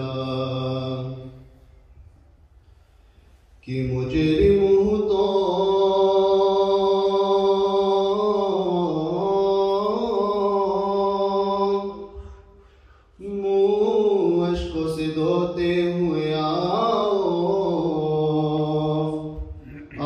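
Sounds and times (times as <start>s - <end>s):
man singing unaccompanied: 0.0s - 1.3s, 3.6s - 12.1s, 13.2s - 20.0s.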